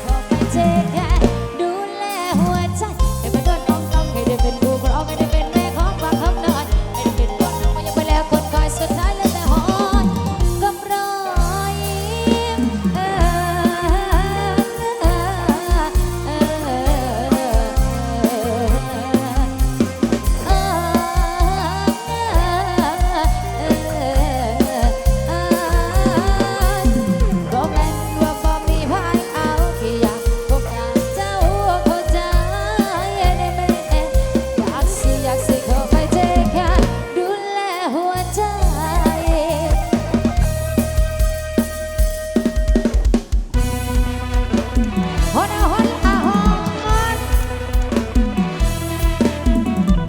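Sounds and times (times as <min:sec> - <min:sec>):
heavy bass: 0:00.0 - 0:01.6, 0:02.4 - 0:37.1, 0:38.2 - 0:50.0
drum kit beat: 0:00.0 - 0:50.0
live band music over loudspeakers: 0:00.0 - 0:50.0.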